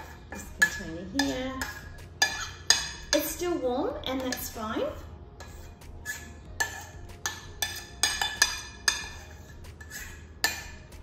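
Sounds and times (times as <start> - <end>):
spoon scraping metal saucepan: 0.0 - 11.0.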